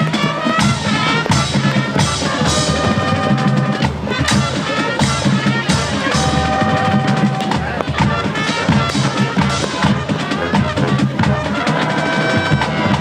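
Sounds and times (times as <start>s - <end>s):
brass sustained chords: 0.0s - 13.0s
marching drums: 0.0s - 13.0s.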